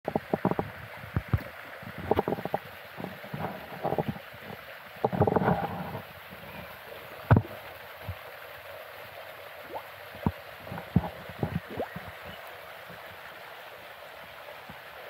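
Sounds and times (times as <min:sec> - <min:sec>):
wind hiss on microphone: 0:00.1 - 0:08.7, 0:09.7 - 0:13.4.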